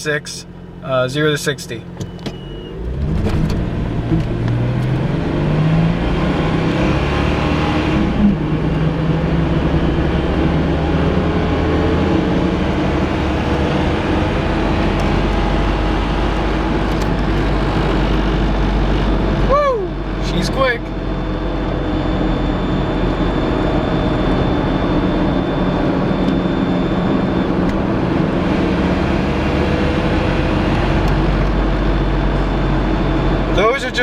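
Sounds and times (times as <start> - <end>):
car engine accelerating hard: 0.0 - 34.0
tyre road noise: 0.0 - 34.0.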